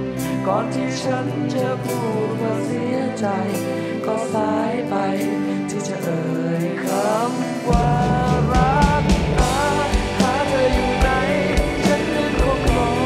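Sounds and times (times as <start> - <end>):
bass: 0.0 - 5.1, 5.8 - 13.0
drums: 0.0 - 13.0
electric guitar: 0.0 - 13.0
person singing: 0.0 - 13.0.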